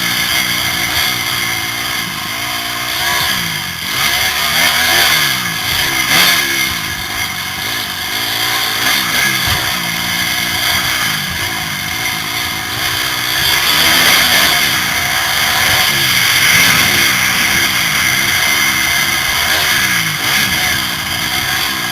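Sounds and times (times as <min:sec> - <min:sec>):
motorbike engine revving: 0:00.0 - 0:21.9.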